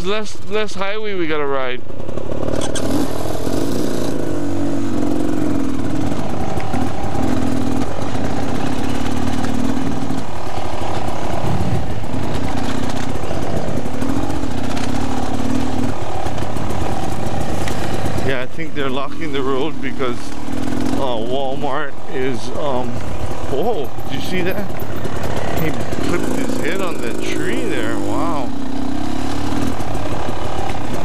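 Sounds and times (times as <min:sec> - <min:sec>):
dirt bike engine revving: 0:01.1 - 0:31.0.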